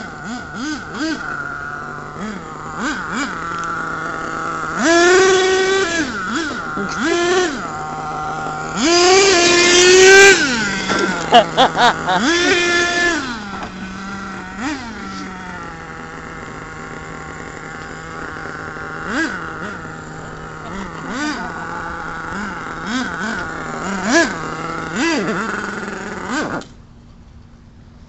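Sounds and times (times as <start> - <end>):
small engine idling and revving: 0.0 - 28.0.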